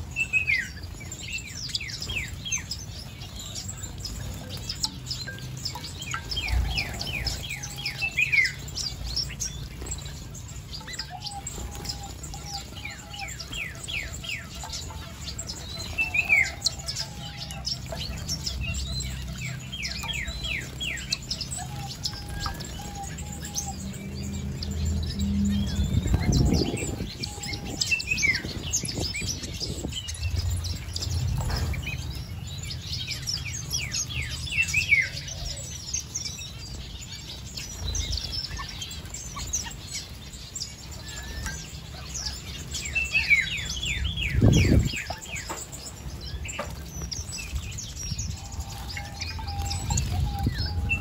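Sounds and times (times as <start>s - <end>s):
finches chirping: 0.0s - 51.0s.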